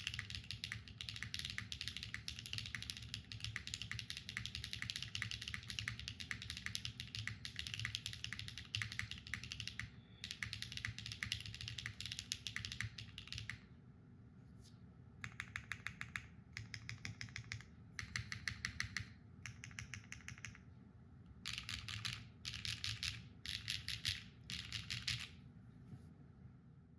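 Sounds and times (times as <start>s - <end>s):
mechanical keyboard typing: 0.0s - 13.7s, 15.2s - 20.6s, 21.4s - 25.4s.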